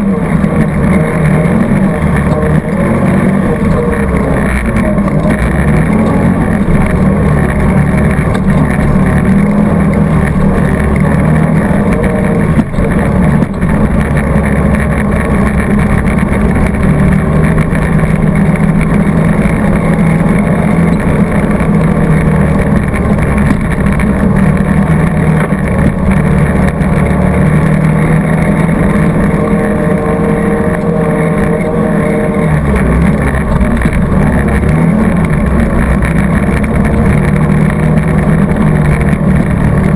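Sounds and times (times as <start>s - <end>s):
atv engine under throttle: 0.0s - 39.9s.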